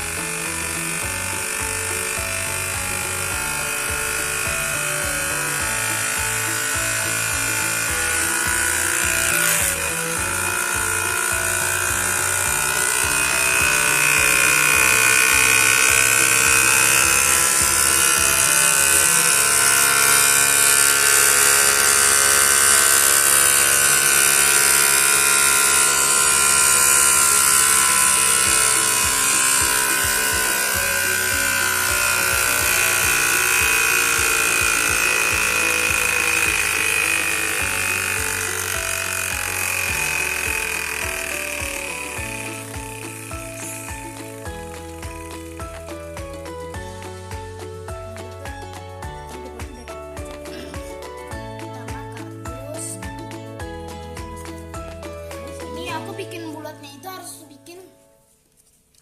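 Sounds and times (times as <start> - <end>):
small motor whirring: 0.0 - 49.1.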